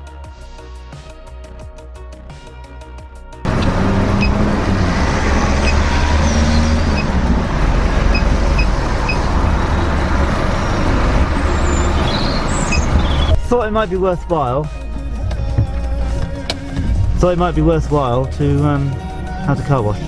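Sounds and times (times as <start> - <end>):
low rumble of vehicles: 3.4 - 20.0.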